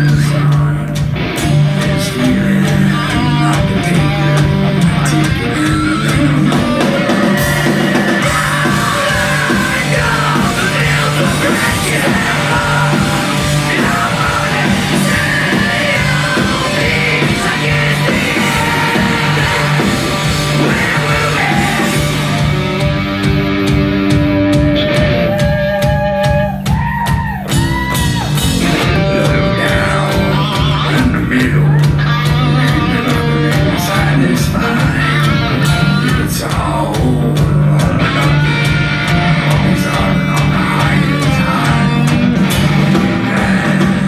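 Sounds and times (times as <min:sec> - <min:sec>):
distorted electric guitars: 0:00.0 - 0:44.0
drums: 0:00.0 - 0:44.0
person screaming singing: 0:01.8 - 0:22.4, 0:24.8 - 0:44.0.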